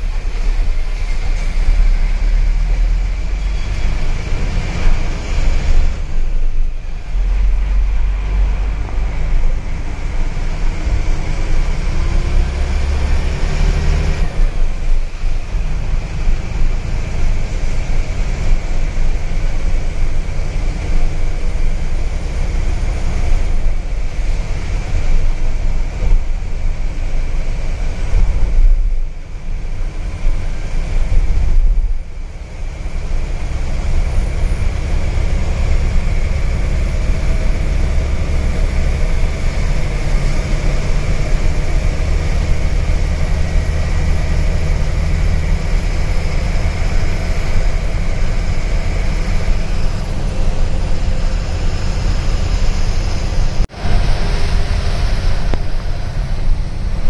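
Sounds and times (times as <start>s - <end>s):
bus engine and tyre rumble: 0.0s - 57.0s
rain and road spray hiss: 0.0s - 57.0s.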